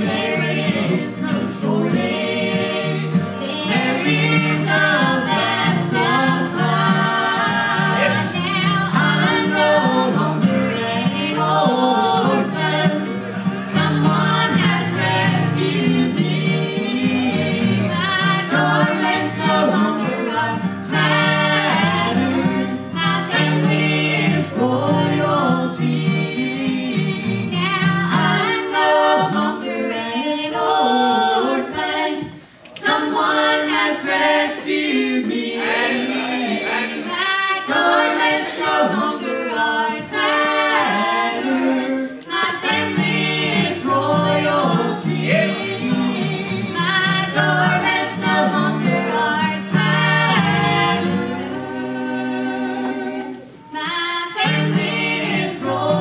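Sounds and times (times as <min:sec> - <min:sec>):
strummed acoustic guitar: 0:00.0 - 0:52.0, 0:54.4 - 0:56.0
people singing in harmony: 0:00.0 - 0:56.0.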